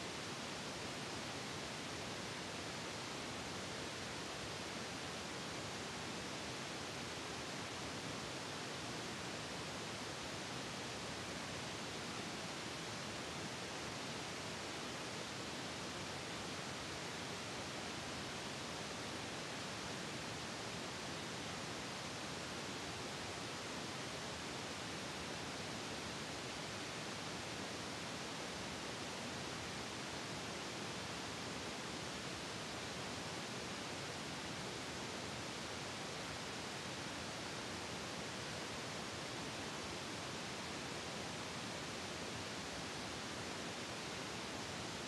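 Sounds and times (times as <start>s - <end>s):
steady static hiss: 0.0s - 45.0s.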